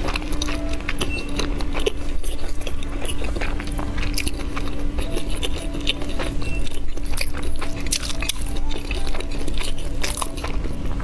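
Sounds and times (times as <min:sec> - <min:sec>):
chewing sausage: 0:00.0 - 0:11.0.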